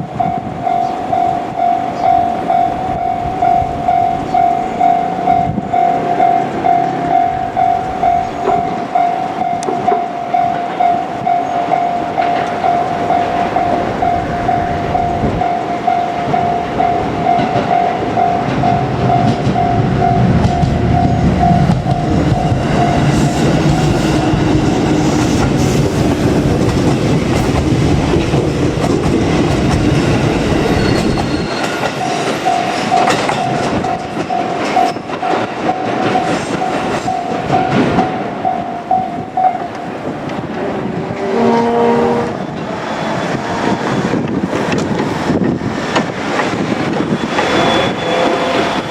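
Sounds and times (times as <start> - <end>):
level-crossing warning bell: 0.0 - 27.0, 27.8 - 40.1, 42.4 - 48.9
train wheels rumbling on rails: 0.0 - 48.9.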